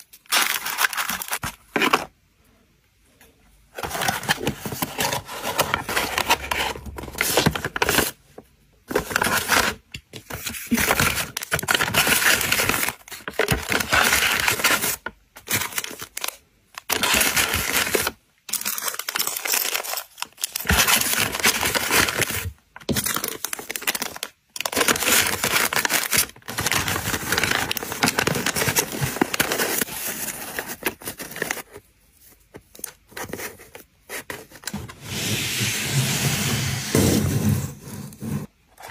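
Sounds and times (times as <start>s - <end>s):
paper crinkling and rustling: 0.0s - 2.1s, 3.8s - 8.2s, 8.9s - 35.0s.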